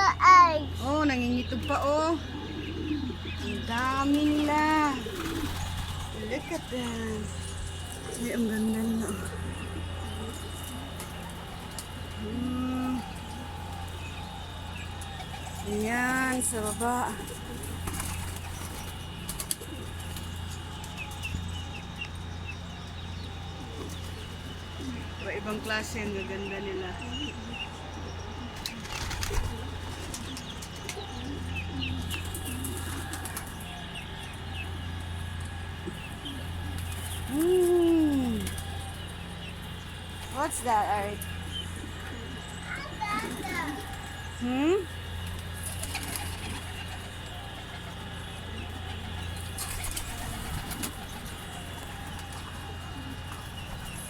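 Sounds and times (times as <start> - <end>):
birds calling softly: 0.0 - 54.0
low hum: 0.0 - 54.0
pigeons cooing: 0.0 - 54.0.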